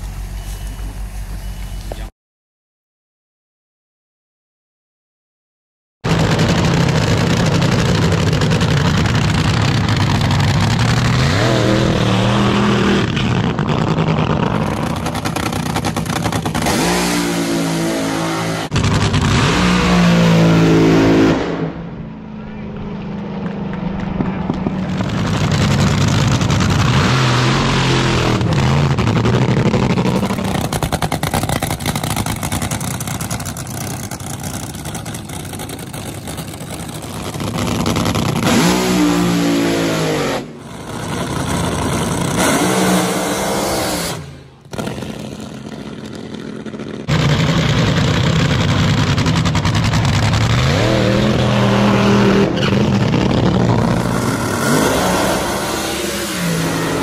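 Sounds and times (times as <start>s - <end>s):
drag race engines revving: 6.1s - 57.0s.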